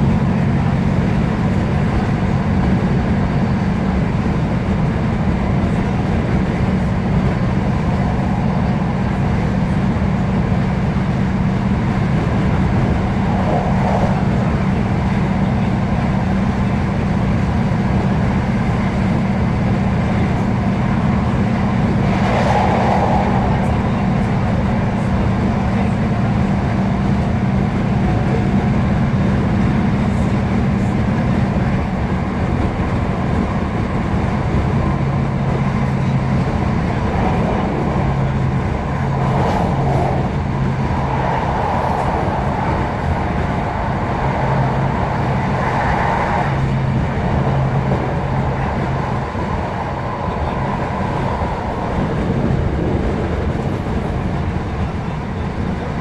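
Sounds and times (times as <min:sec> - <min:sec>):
diesel engine drone: 0:00.0 - 0:56.0
wheel-on-rail rumble: 0:00.0 - 0:56.0.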